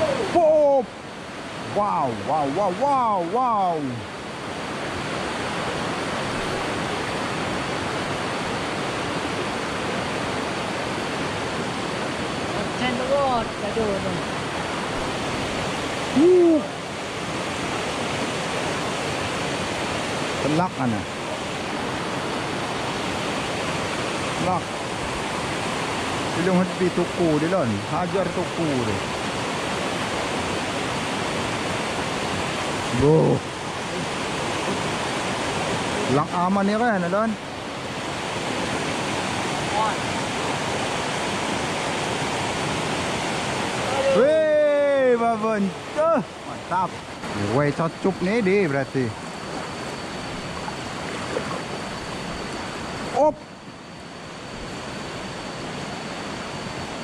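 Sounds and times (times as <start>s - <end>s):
river rapids rushing: 0.0s - 53.3s.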